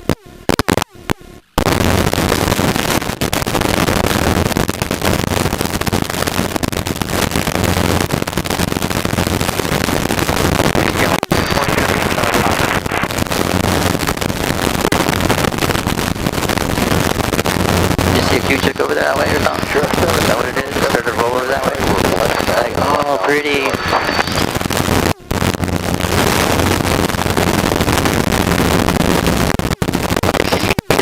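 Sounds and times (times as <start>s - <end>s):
constant low hum: 4.1s - 31.0s.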